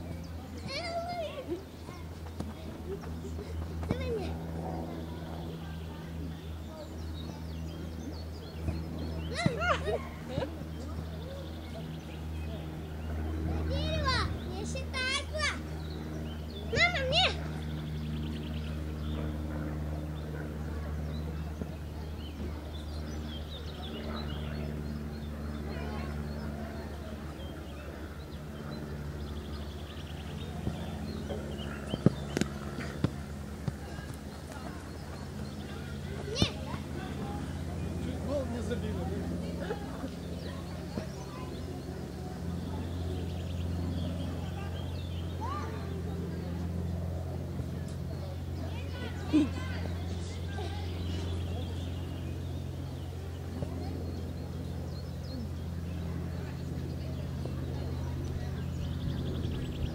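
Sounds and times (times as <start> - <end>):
birds chirping: 0.0 - 59.9
distant voices: 0.0 - 59.9
steady low hum: 0.0 - 59.9.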